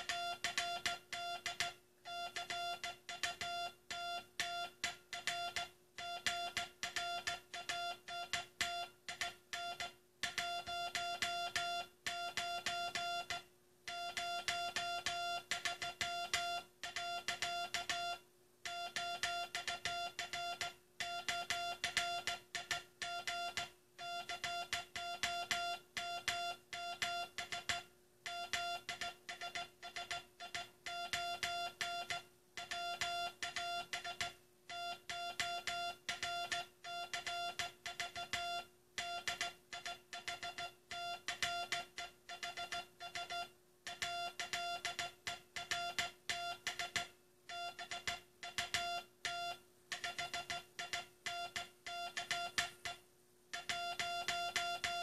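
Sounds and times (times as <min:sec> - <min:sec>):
morse code tone: 0:00.0 - 0:53.0, 0:53.6 - 0:55.0.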